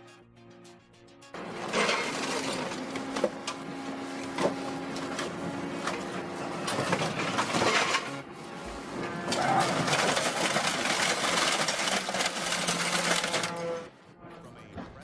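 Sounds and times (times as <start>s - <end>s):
wood chipper running: 1.4s - 14.6s.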